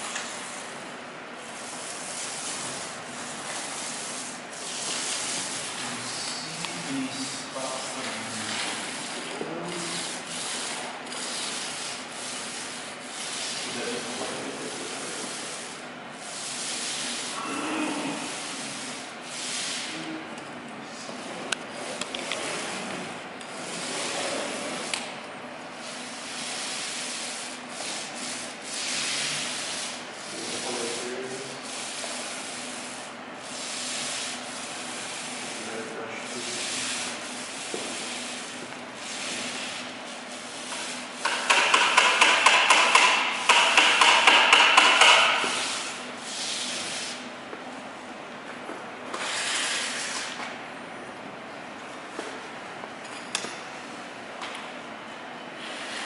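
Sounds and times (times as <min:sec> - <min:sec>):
short rubbing strokes on wall: 0:00.0 - 0:47.4, 0:49.1 - 0:50.6, 0:55.6 - 0:56.0.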